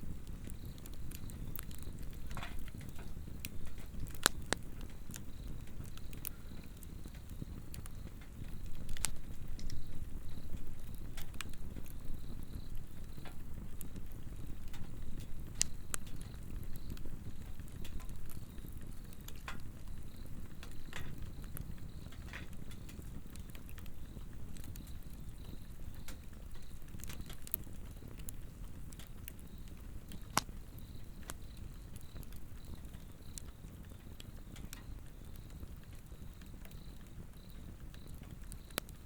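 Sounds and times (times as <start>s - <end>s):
fire crackling and popping: 0.0s - 39.0s
low rumble of flame: 0.0s - 39.0s
insects chirping: 0.1s - 39.0s.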